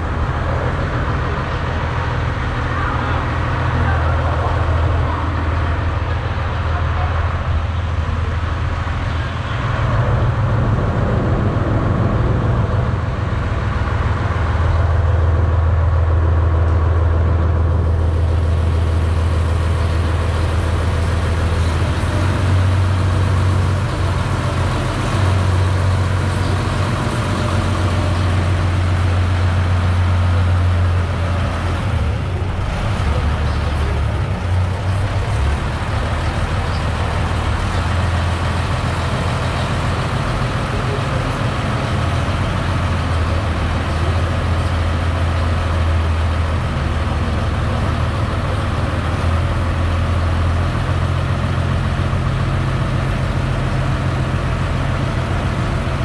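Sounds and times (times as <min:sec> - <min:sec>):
heavy engine droning: 0:00.0 - 0:56.0.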